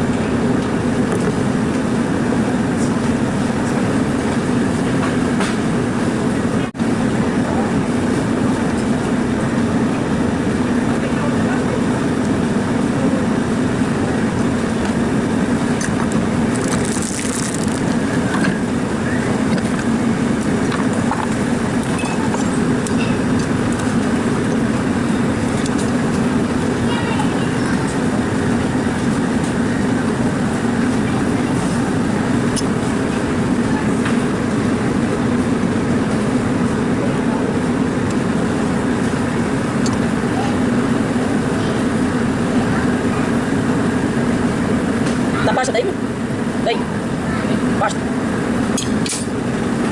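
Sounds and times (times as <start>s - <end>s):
air cooler fan drone: 0.0s - 49.9s.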